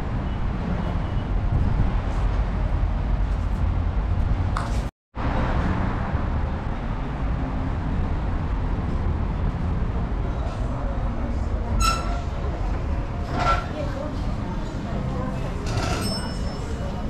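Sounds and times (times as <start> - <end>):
low urban rumble: 0.0 - 17.0.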